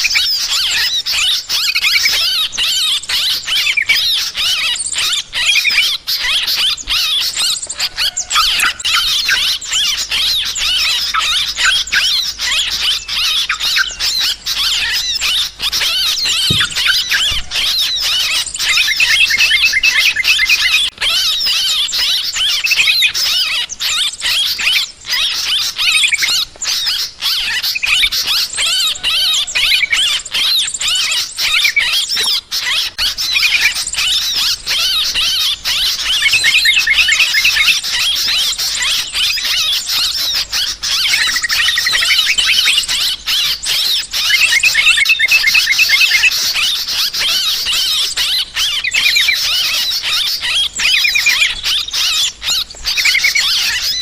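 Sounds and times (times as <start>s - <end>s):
birds chattering high-pitched: 0.0s - 54.0s.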